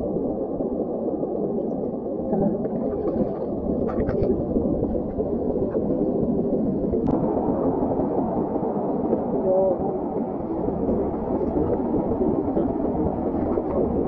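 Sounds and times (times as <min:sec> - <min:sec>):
sea water washing over rocks: 0:00.0 - 0:14.0.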